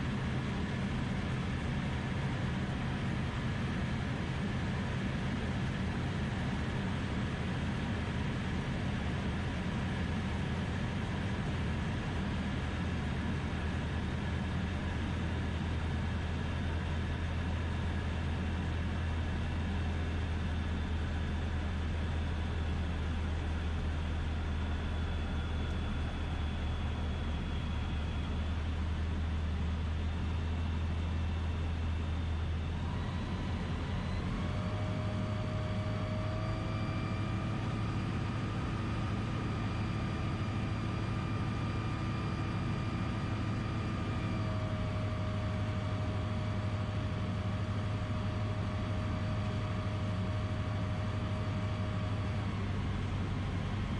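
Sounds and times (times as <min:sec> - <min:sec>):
aircraft engine and propeller drone: 0:00.0 - 0:53.9.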